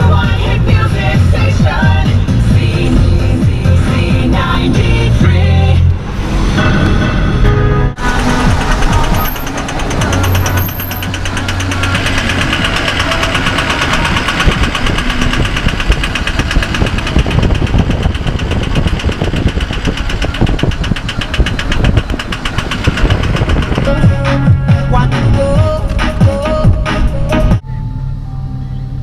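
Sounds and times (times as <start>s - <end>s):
truck engine pulsing: 0.0s - 29.0s.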